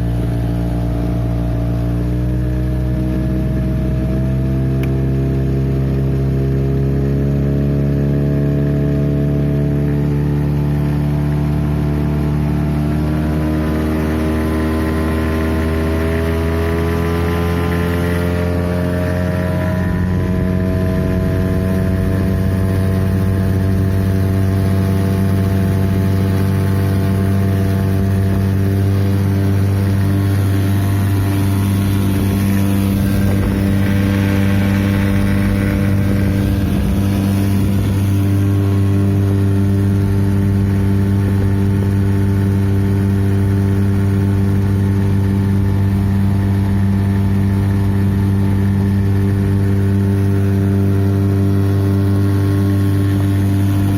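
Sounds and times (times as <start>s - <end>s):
boat motor running: 0.0s - 53.9s.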